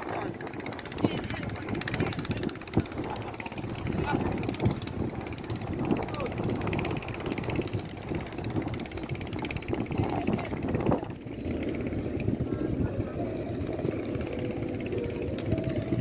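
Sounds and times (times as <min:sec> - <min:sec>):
faint voices: 0:00.0 - 0:16.0
motor running: 0:00.0 - 0:16.0.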